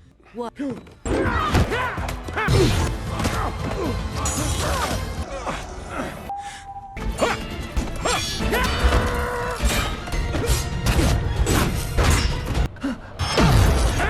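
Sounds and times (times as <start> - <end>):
film music: 0.0 - 14.0.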